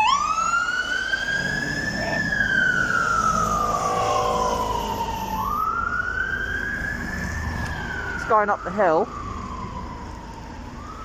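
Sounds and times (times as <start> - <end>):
fire engine siren wailing: 0.0 - 11.0
traffic rumble: 0.0 - 11.0.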